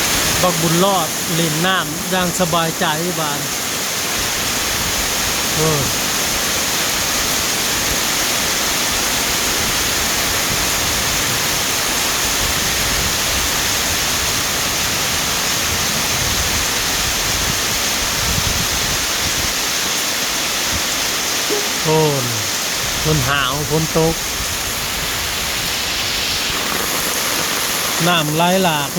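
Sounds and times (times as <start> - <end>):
heavy rain pouring: 0.0 - 28.9.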